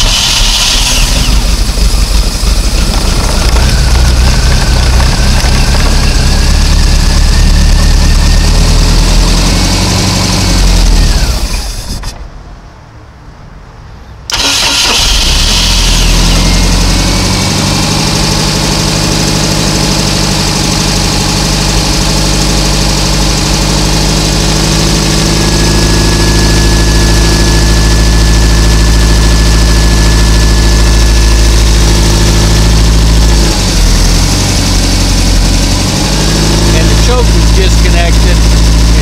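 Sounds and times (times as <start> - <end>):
boat engine starting and idling: 0.0 - 12.2, 14.3 - 39.0.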